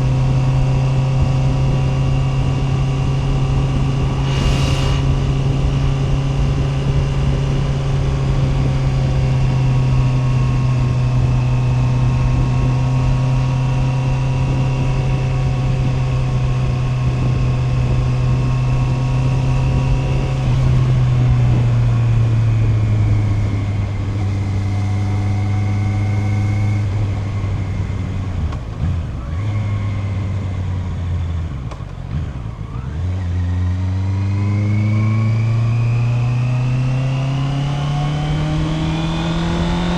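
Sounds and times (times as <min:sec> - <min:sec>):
motorcycle engine revving: 0:00.5 - 0:39.9.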